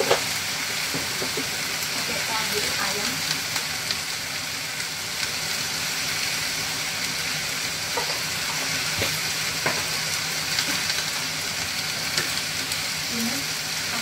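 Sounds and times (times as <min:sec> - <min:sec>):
vegetables sizzling in a wok: 0:00.0 - 0:14.0.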